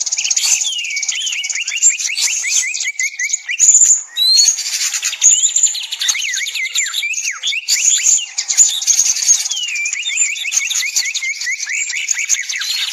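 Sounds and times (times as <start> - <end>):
songbirds chirping: 0.0 - 12.9.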